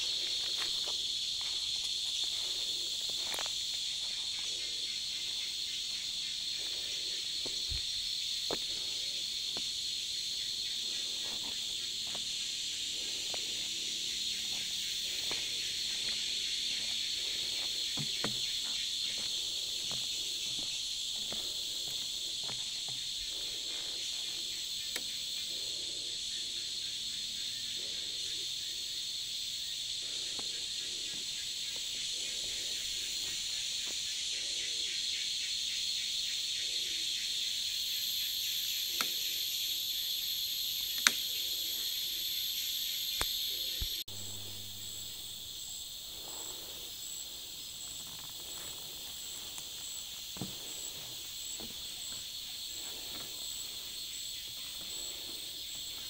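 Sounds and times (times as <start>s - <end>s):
high insect trill: 0.0s - 56.0s.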